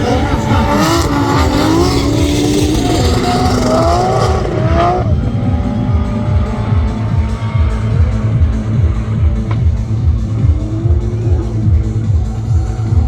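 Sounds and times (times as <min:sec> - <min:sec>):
background music with steady beat: 0:00.0 - 0:13.0
race car engine at high revs: 0:00.0 - 0:13.0.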